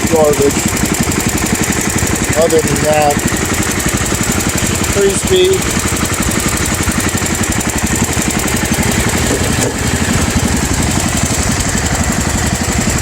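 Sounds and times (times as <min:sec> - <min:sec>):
garden tractor engine idling: 0:00.0 - 0:13.0.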